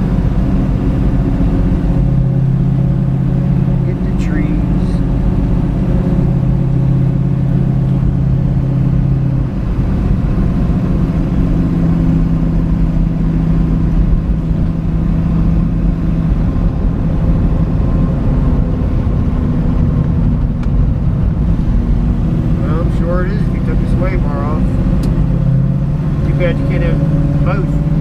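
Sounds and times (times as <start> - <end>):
hot rod engine running: 0.0 - 28.0.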